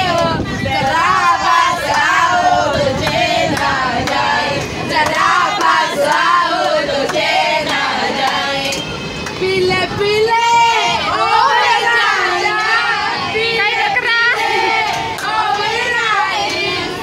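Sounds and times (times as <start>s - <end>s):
women singing in chorus: 0.0s - 17.0s.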